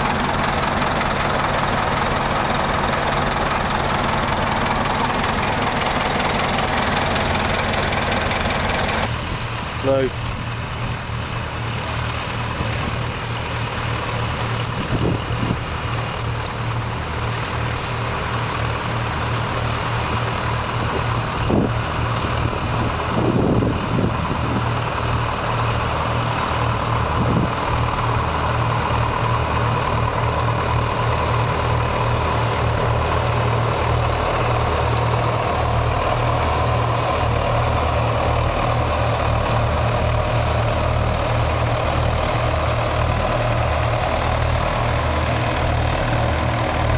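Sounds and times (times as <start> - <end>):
tractor diesel engines rumbling: 0.0 - 46.9.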